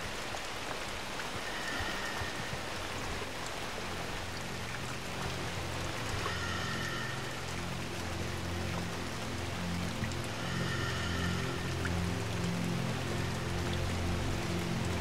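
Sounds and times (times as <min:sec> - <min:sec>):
steady hiss of water: 0:00.0 - 0:15.0.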